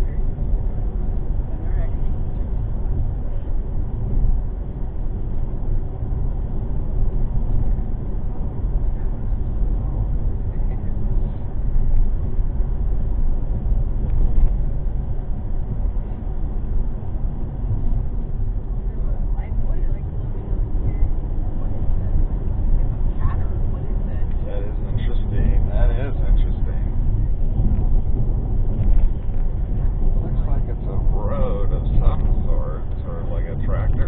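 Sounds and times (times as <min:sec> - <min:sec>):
car driving from inside cabin: 0:00.0 - 0:34.0.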